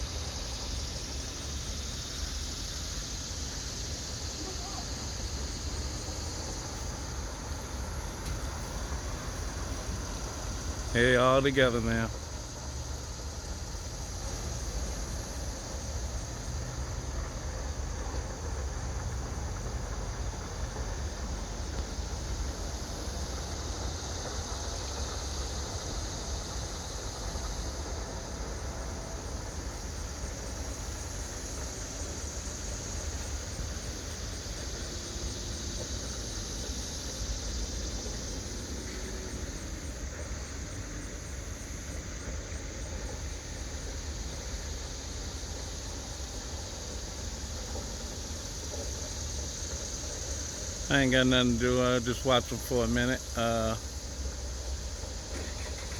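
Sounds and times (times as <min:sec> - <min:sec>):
high hiss: 0:00.0 - 0:55.9.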